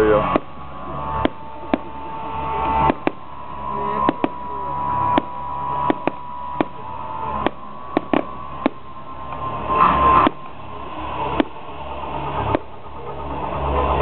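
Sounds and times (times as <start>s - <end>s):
firework shells bursting: 0.0s - 13.1s.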